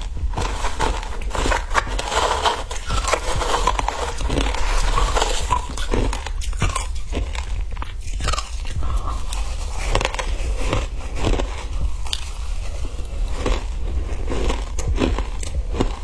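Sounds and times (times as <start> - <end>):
ice crunching in mouth: 0.0 - 16.0.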